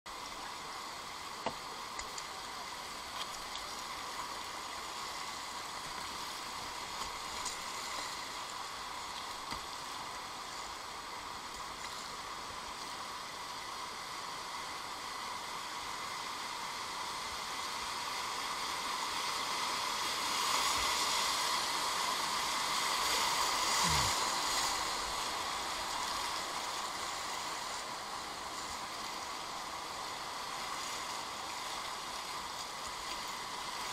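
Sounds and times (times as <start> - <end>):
whitewater rapid rushing: 0.1 - 33.9.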